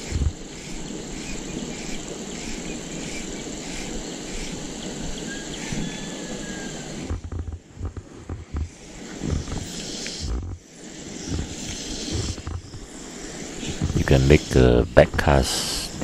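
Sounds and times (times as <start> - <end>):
faint insect chirps: 0.0 - 7.3, 8.4 - 16.0
steady outdoor hiss: 0.0 - 16.0.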